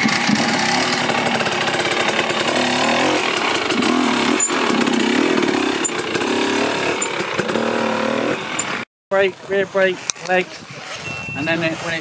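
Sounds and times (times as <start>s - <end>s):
dirt bike engine revving: 0.0s - 9.8s.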